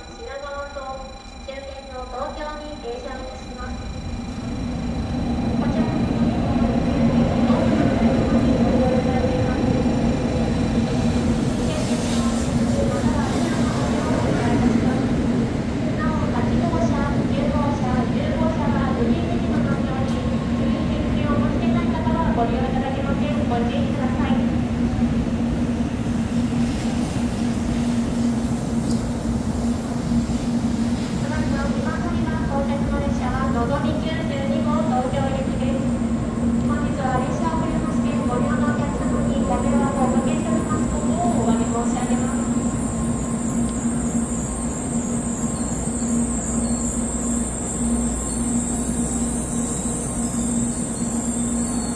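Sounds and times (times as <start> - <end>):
train low rumble and hum: 0.0 - 51.9.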